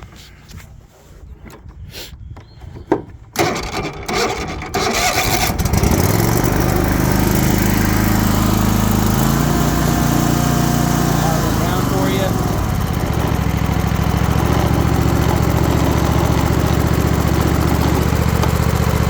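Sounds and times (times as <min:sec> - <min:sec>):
starter cranking engine: 0:03.3 - 0:19.0
mower engine running: 0:03.4 - 0:19.0.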